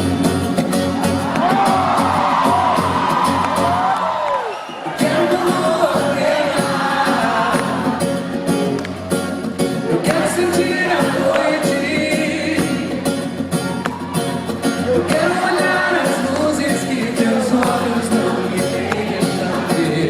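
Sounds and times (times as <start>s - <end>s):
live band music: 0.0s - 3.9s, 4.7s - 20.0s.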